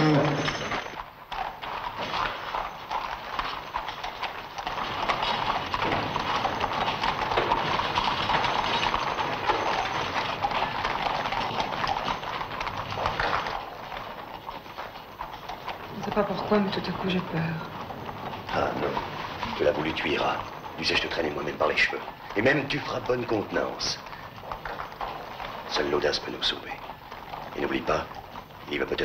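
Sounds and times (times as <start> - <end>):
horse hooves clattering on cobblestones: 0.0 - 29.0.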